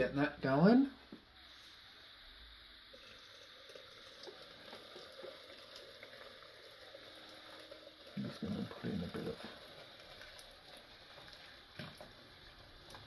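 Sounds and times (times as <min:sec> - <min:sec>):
water pouring into plastic pot: 0:01.7 - 0:13.0.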